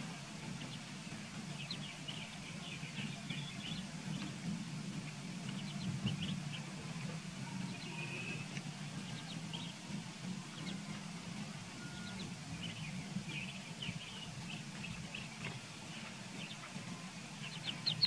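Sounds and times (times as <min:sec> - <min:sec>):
ducklings peeping: 0:00.0 - 0:18.0
steady low hum: 0:00.0 - 0:18.0.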